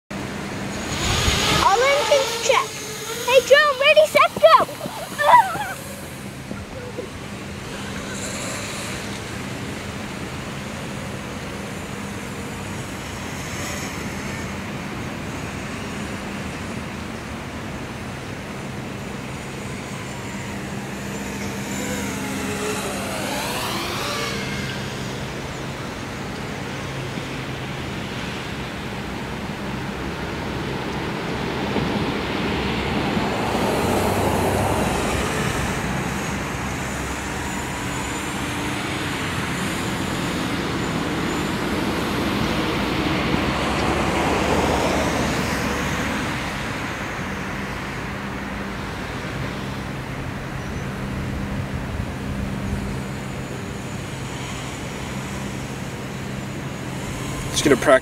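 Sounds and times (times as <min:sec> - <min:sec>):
quadcopter motors whining: 0:00.2 - 0:58.0.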